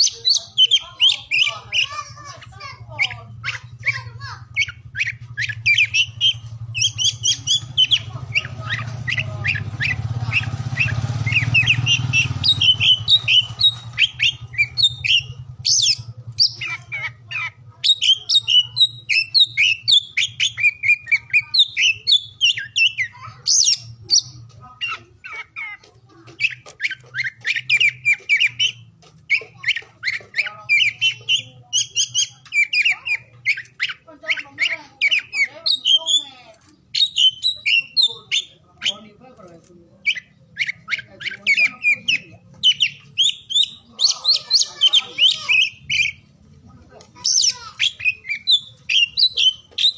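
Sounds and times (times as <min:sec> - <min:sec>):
magpie-robin singing: 0:00.0 - 0:49.9.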